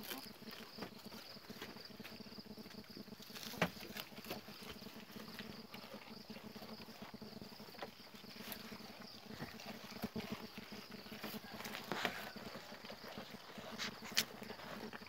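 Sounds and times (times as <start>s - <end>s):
goats chewing grass: 0.0s - 15.0s.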